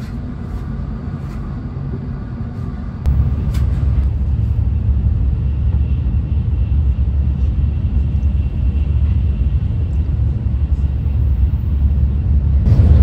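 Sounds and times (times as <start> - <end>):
train cabin low rumble: 0.0 - 13.0.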